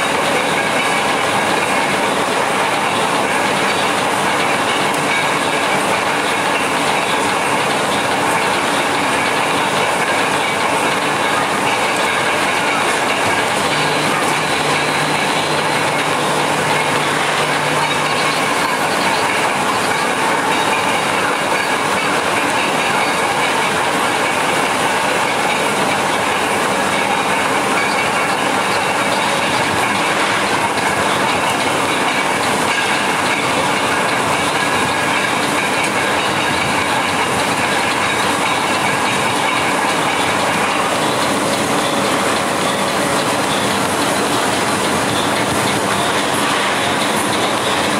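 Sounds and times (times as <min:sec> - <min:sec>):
train running on rails: 0:00.0 - 0:47.9.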